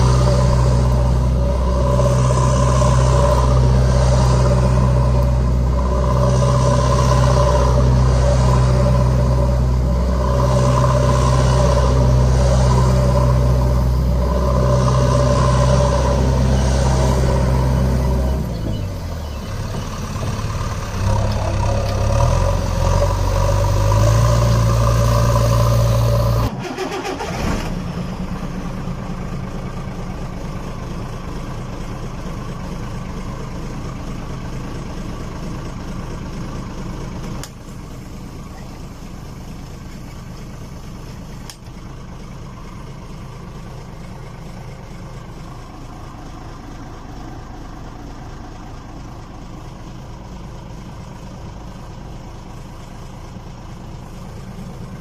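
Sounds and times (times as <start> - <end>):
steady rumble: 0.0 - 55.0
truck engine running: 0.0 - 55.0.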